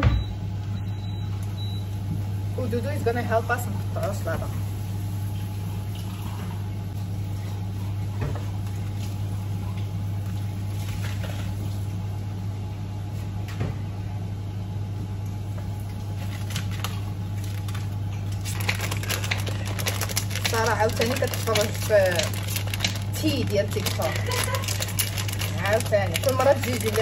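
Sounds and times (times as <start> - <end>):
kitchen appliance humming: 0.0 - 27.0.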